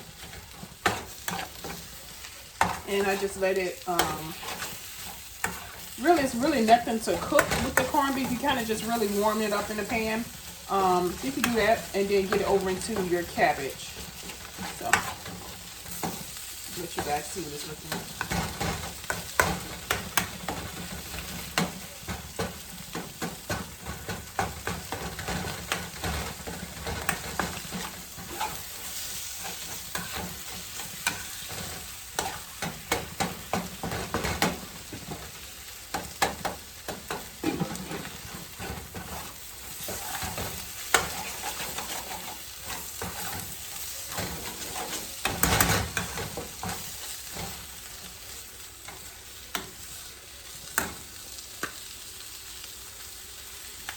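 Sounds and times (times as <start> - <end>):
utensil scraping a pan: 0.0 - 35.3, 35.9 - 47.7
meat sizzling in a frying pan: 0.0 - 53.9.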